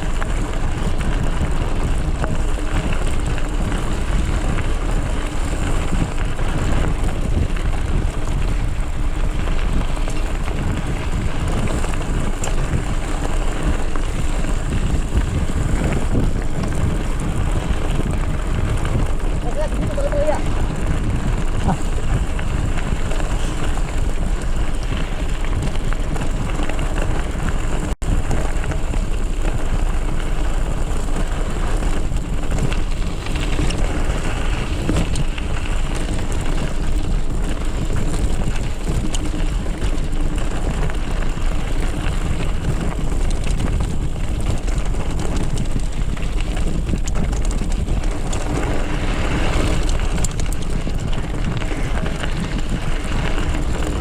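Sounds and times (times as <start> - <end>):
bike rolling over dirt trail: 0.0 - 54.0
wind rushing on microphone: 0.0 - 54.0.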